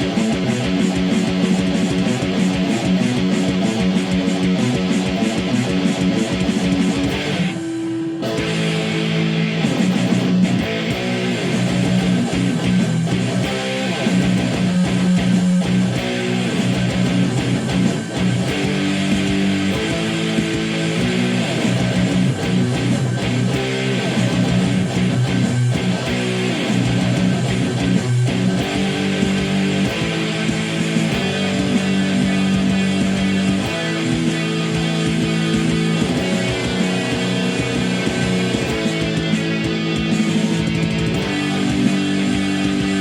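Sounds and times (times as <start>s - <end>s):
strummed guitar chords: 0.0s - 43.0s.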